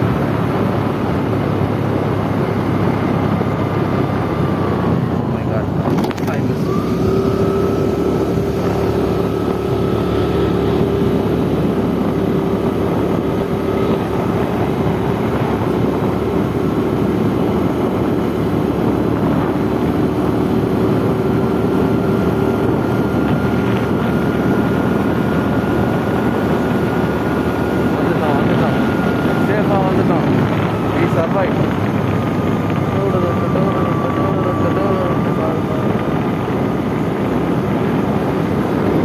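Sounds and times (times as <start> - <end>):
car engine and road rumble: 0.0 - 39.0
car whine: 0.0 - 39.0.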